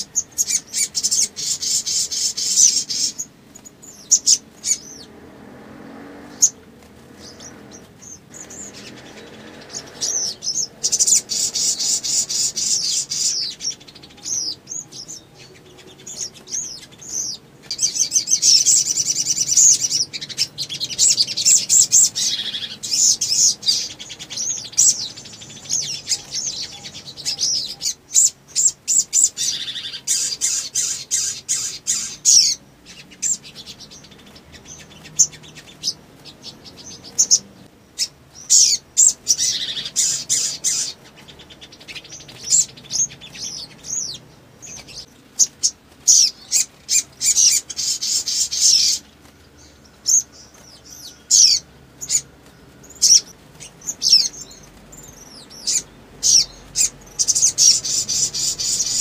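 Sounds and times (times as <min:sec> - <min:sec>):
bird chirping and trilling: 0:00.0 - 0:59.0.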